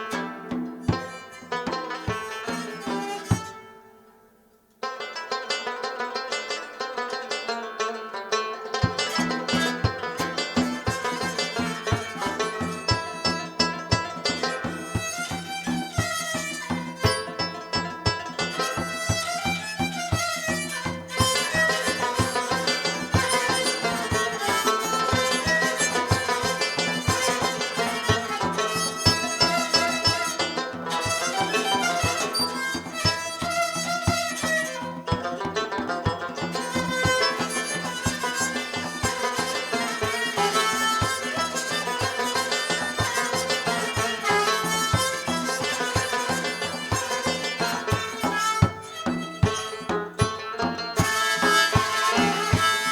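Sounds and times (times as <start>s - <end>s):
fast plucked-string strokes: 0.0s - 4.0s, 4.8s - 52.9s
bowed-string melody: 0.0s - 52.9s.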